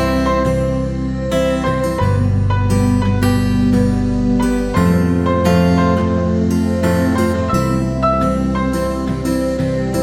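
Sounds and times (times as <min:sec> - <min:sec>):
instrumental guitar music: 0:00.0 - 0:10.0.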